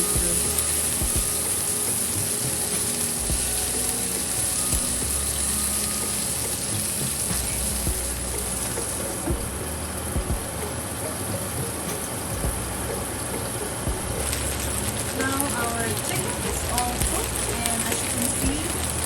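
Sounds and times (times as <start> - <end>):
chicken sizzling on a pan: 0.0 - 19.0.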